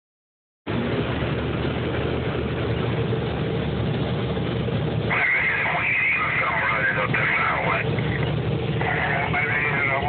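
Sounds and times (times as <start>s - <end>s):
diesel farm machinery running: 0.7s - 10.0s.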